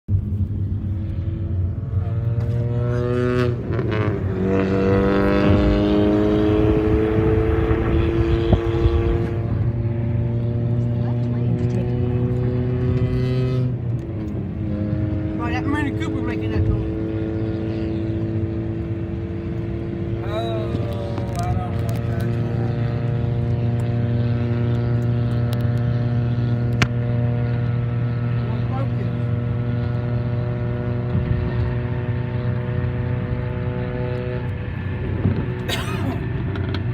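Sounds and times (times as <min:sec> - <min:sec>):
car engine drone: 0:00.1 - 0:36.9.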